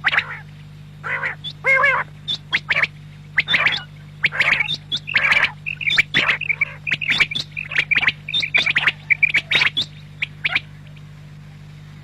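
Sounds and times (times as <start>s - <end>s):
quail calling: 0.0s - 11.2s
steady low hum: 0.0s - 12.0s.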